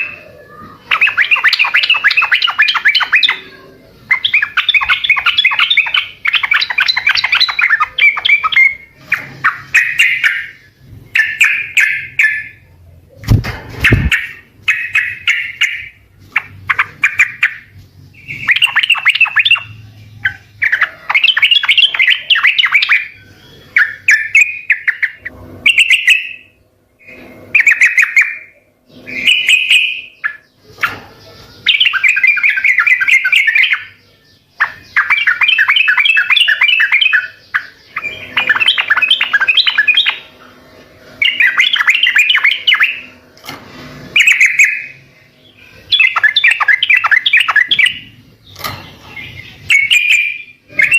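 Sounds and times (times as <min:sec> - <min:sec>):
bird singing chattering phrases: 0:00.0 - 0:50.9.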